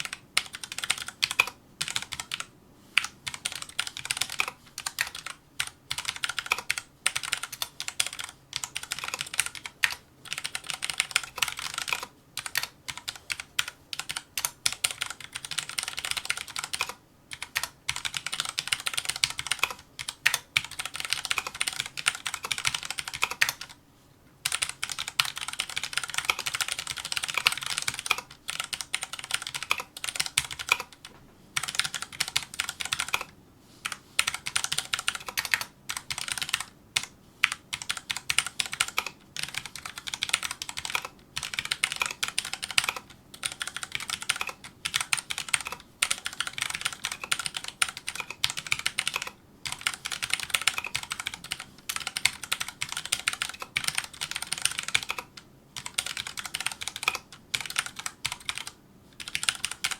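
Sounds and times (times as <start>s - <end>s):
mechanical keyboard typing: 0.0s - 23.8s, 24.4s - 59.9s.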